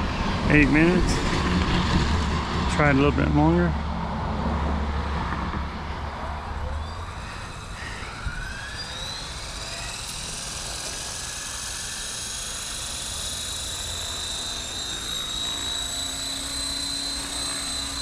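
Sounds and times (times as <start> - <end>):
electric helicopter motor whine: 0.0 - 18.0.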